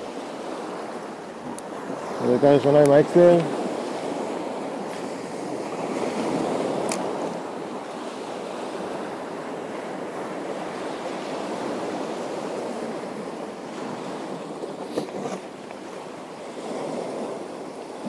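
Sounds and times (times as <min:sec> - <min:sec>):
waves washing on shore: 0:00.0 - 0:18.0
wind: 0:00.0 - 0:18.0.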